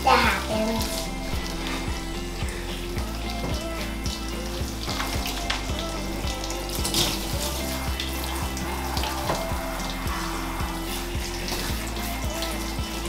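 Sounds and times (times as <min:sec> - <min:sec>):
background music with steady beat: 0:00.0 - 0:13.0
shower sprayer running: 0:00.0 - 0:13.0.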